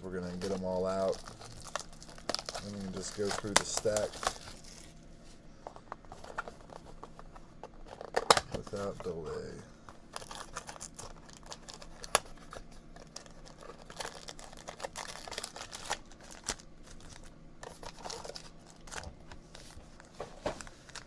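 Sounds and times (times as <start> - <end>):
packaging crinkling and tearing: 0.1 - 5.0, 5.7 - 21.0.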